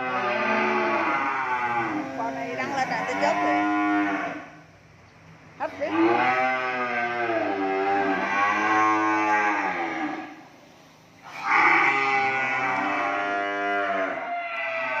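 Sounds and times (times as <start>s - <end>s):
cattle mooing: 0.0s - 4.6s, 5.6s - 10.4s, 11.3s - 15.0s.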